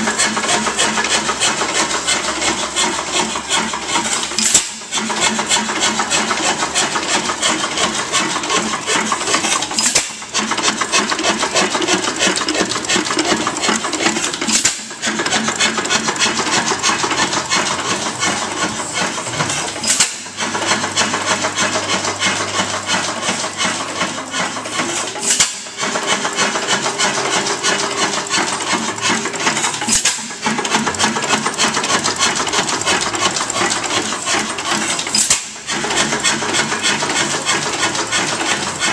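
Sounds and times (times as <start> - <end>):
old engine clattering: 0.0 - 38.9.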